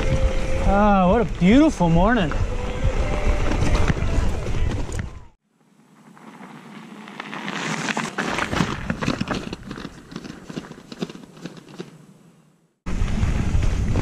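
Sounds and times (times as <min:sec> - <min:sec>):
bike tyres crunching over dirt: 0:00.0 - 0:12.0, 0:12.9 - 0:14.0.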